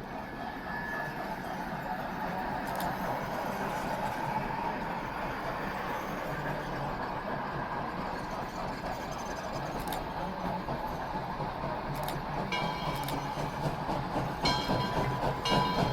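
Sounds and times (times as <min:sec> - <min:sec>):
train rumbling past: 0:00.0 - 0:15.9.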